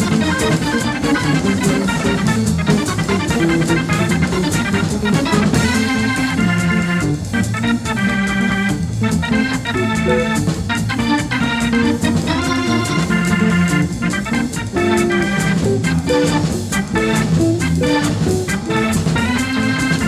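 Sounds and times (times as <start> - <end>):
jazz organ chords: 0.0 - 20.0
walking bass line: 0.0 - 20.0.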